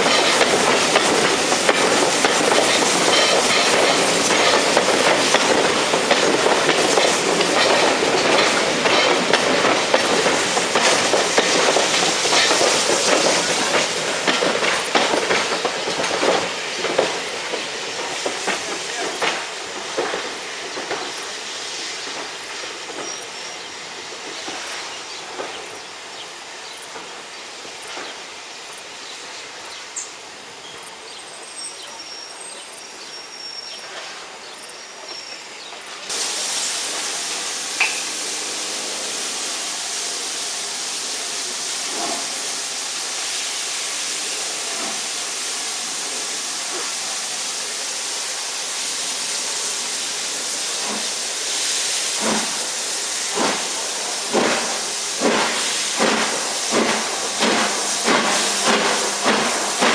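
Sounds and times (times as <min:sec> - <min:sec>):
locomotive steam hissing: 0:00.0 - 0:59.9.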